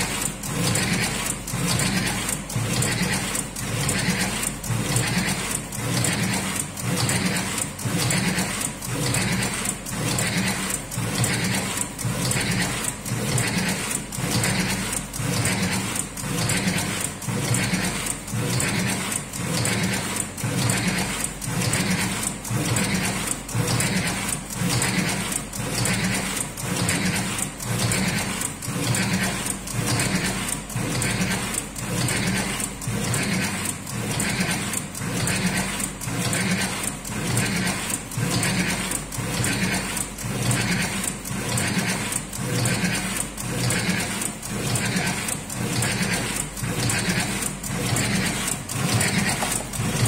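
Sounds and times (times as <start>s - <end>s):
filling machine motor running: 0.0s - 50.0s.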